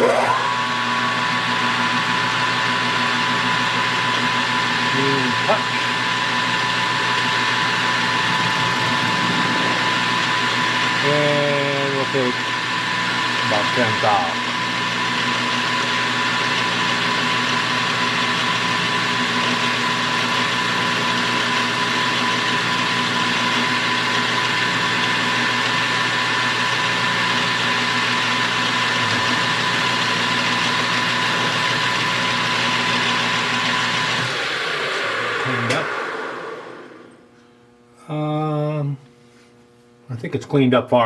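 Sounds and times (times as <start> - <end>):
metal lathe humming: 0.0 - 37.3.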